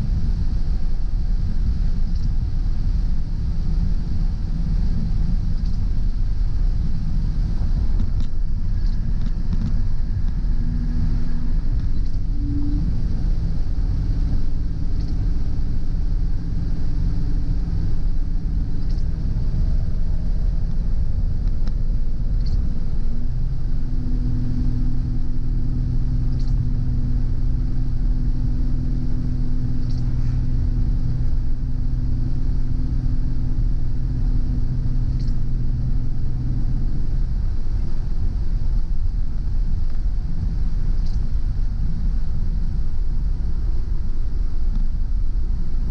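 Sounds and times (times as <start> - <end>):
car engine hum: 0.0 - 45.9
road rumble: 0.0 - 45.9.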